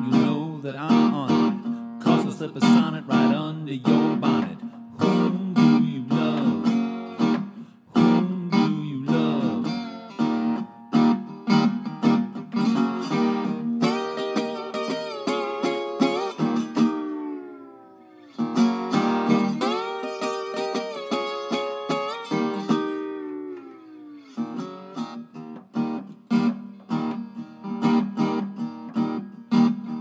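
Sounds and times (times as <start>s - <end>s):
resonator guitar strumming chords: 0.0s - 30.0s.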